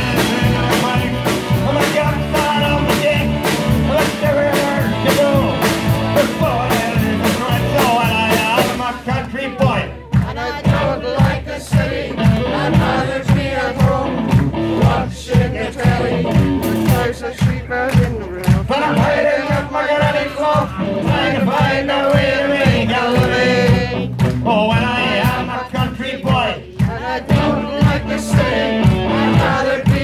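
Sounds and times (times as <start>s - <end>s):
person singing: 0.0s - 14.2s, 14.8s - 30.0s
live band music: 0.0s - 30.0s
steady drum beat: 0.0s - 30.0s.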